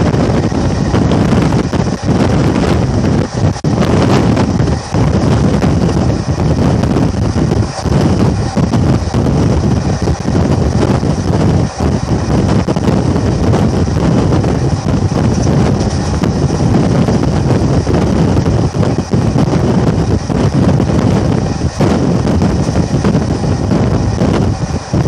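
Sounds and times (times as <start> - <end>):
train wheels rumbling on track: 0.0 - 25.0
wind buffeting microphone: 0.0 - 25.0.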